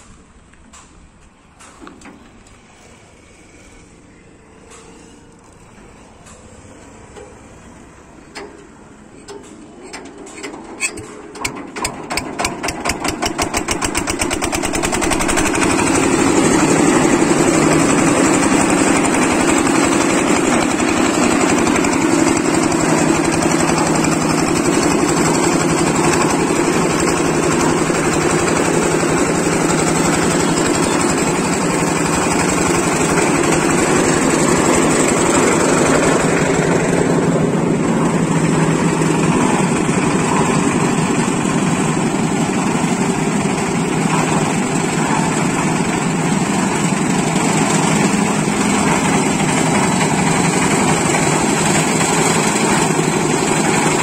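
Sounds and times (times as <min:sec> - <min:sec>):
concrete mixer engine running: 0:02.4 - 0:54.0.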